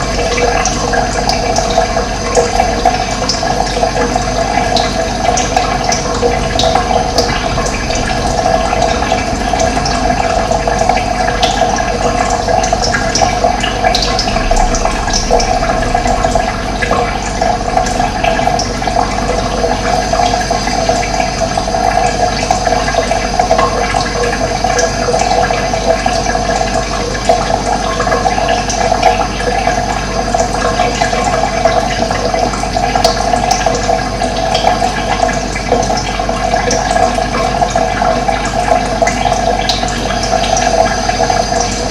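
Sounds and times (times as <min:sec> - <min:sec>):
water rushing: 0:00.0 - 0:34.3.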